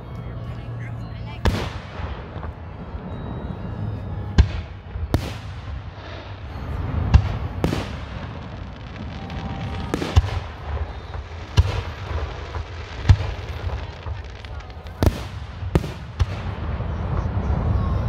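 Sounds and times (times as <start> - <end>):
steady low rumble: 0.0 - 18.0
fireworks exploding: 1.1 - 18.0.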